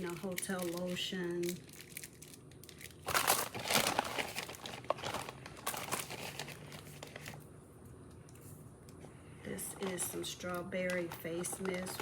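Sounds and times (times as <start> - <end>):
bags and packets crinkling: 0.0 - 7.4, 9.4 - 12.0.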